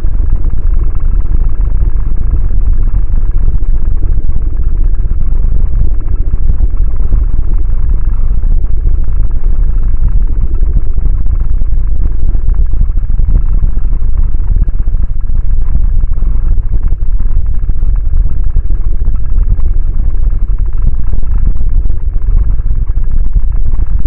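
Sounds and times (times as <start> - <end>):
loud grainy low rumble: 0.0 - 24.0.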